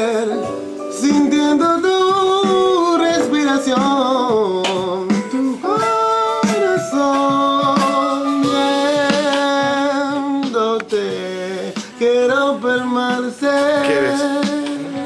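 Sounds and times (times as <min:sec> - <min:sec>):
man singing a cappella: 0:00.0 - 0:15.0.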